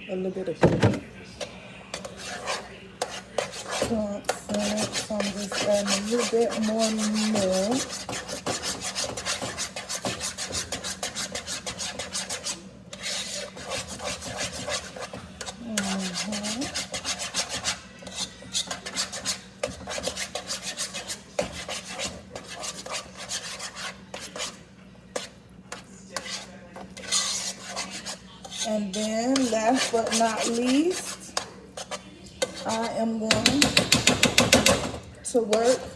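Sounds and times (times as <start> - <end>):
utensil mashing potatoes in pot: 0.8 - 35.9.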